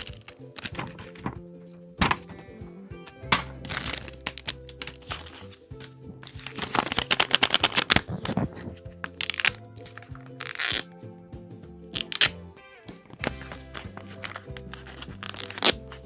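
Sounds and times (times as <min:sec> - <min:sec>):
paper and tape crinkling: 0:00.0 - 0:02.4, 0:03.1 - 0:10.9, 0:12.0 - 0:12.4, 0:13.0 - 0:16.0
background music: 0:00.0 - 0:16.0.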